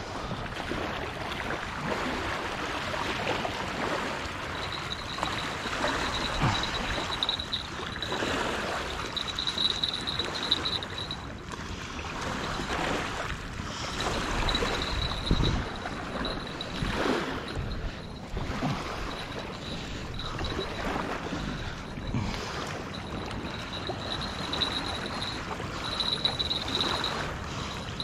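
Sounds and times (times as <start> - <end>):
small waves washing on riverbank: 0.0 - 28.0.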